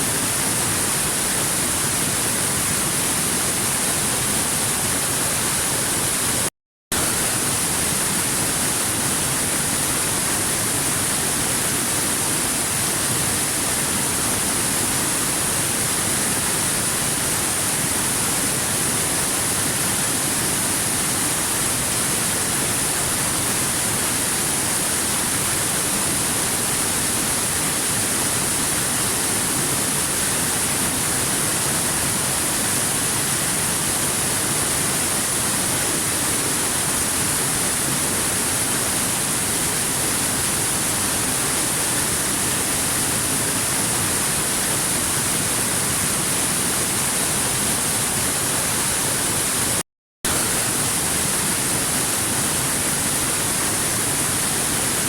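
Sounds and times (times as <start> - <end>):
waterfall rushing: 7.0 - 55.0.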